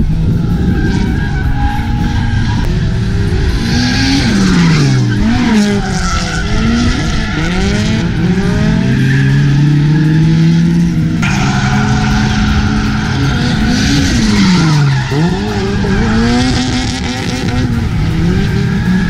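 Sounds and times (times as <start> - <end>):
car engine revving: 0.0 - 19.0
tyres skidding and squealing: 0.0 - 19.0.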